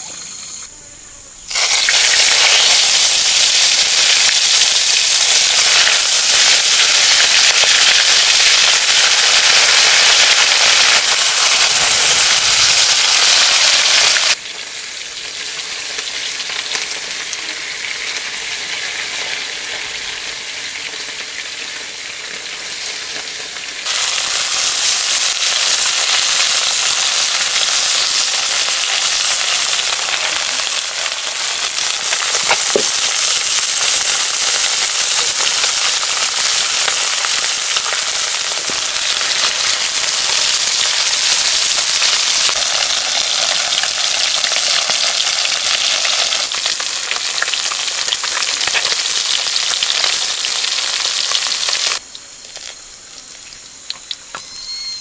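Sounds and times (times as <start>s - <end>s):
fish sizzling in hot oil: 1.5s - 55.0s.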